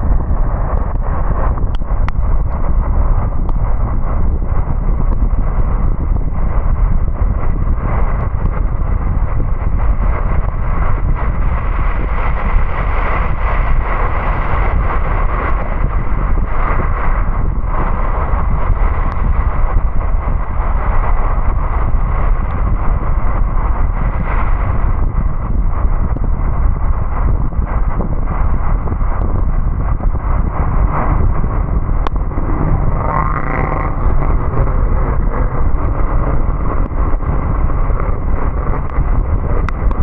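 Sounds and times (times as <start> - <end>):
car driving rumble: 0.0 - 40.0.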